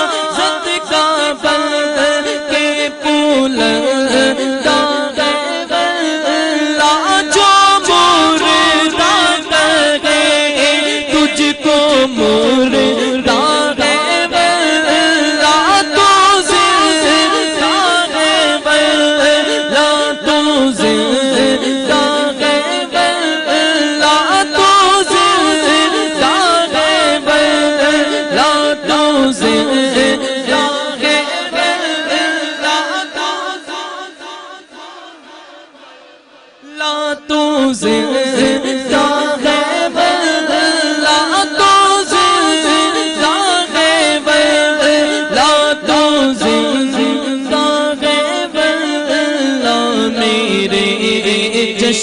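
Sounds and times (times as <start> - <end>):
man singing ornamented melody: 0.0 - 52.0.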